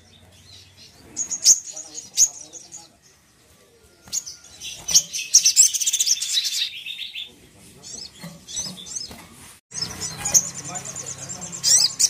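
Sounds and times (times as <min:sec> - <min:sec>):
bird chirps and trills: 0:00.0 - 0:12.0.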